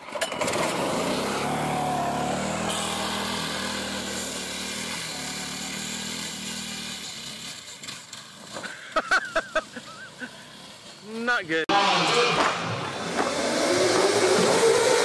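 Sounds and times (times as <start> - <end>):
go-kart engine running: 0.0 - 15.0.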